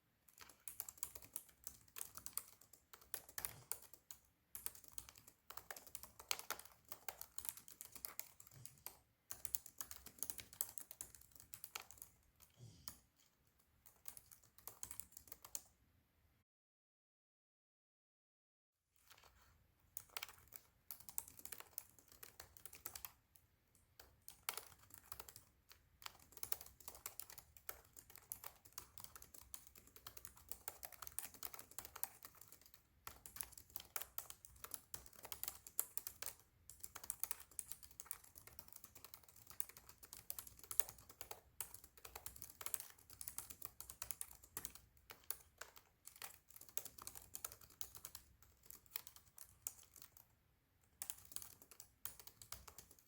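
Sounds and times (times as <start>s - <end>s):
rapid typing on laptop keyboard: 0.1s - 15.8s, 19.0s - 53.0s.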